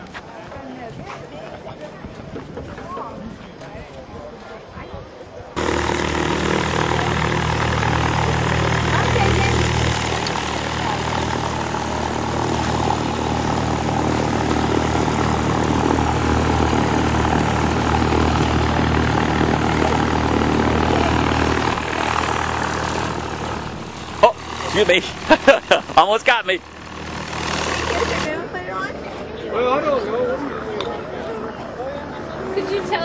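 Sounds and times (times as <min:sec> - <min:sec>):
propeller aircraft engine droning: 0:05.6 - 0:33.0.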